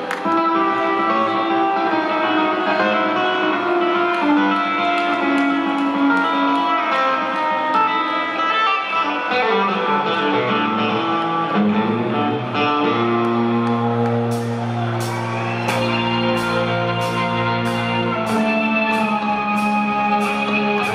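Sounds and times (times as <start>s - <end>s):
electric guitar melody: 0.0s - 20.9s.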